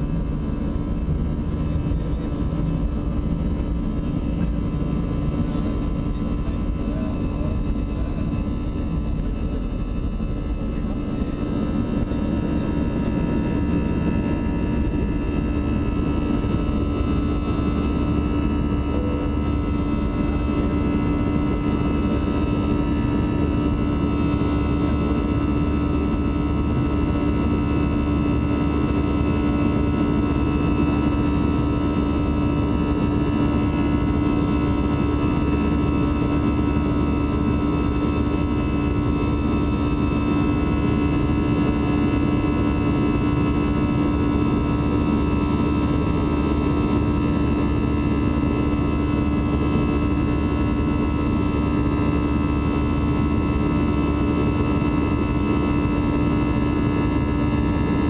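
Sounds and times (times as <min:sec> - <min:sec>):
jet engine roar inside cabin: 0:00.0 - 0:58.0.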